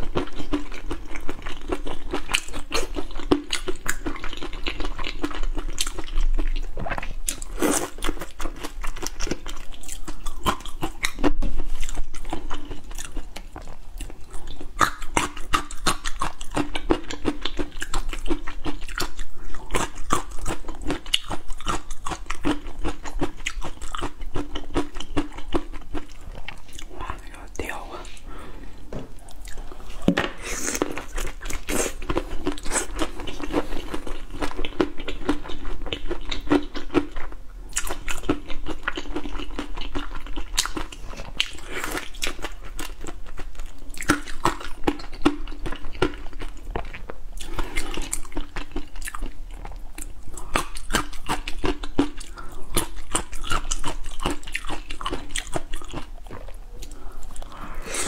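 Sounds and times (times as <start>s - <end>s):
crunching and chewing shrimp: 0.0s - 27.9s, 29.2s - 58.0s.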